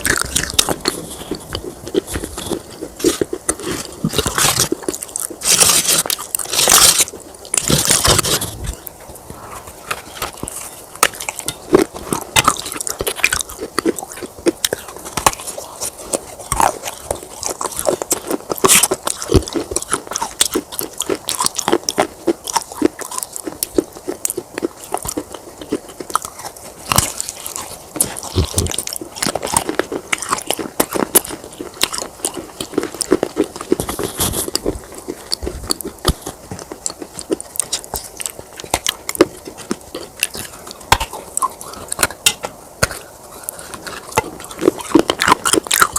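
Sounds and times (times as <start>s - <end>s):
clay pot pieces crunching: 0.0s - 45.9s.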